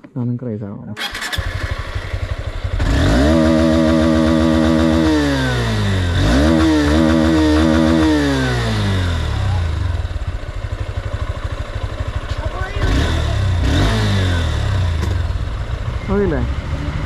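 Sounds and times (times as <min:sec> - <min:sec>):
engine idling and revving: 0:01.0 - 0:17.0.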